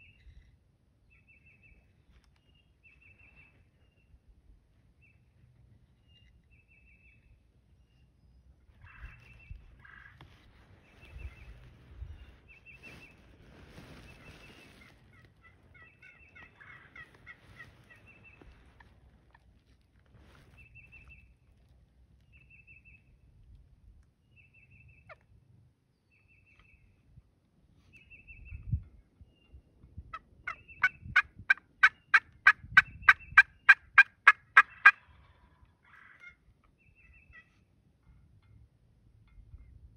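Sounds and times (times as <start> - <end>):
wild turkey calls and gobbling: 0.0 - 23.1, 29.4 - 39.7.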